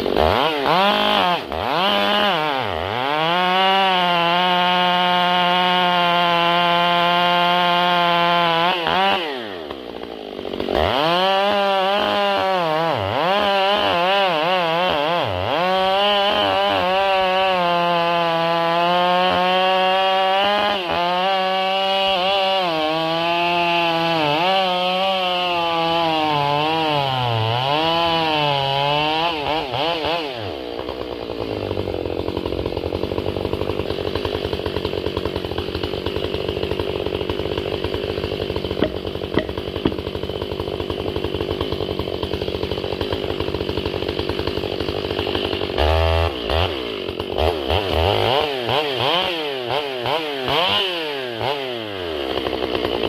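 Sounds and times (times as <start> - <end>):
chainsaw revving and idling: 0.0 - 53.0.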